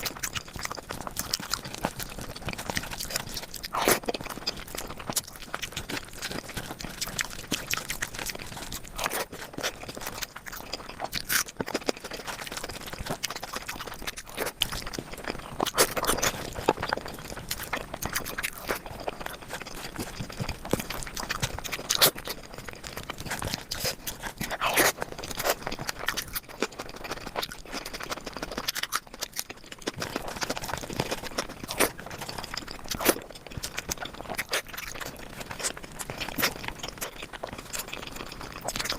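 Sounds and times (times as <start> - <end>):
chewing: 0.0 - 38.9.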